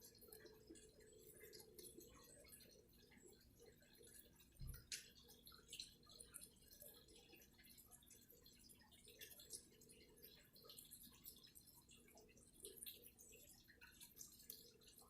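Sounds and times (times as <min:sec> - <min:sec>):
faint ticks and crackles: 0:00.0 - 0:15.0.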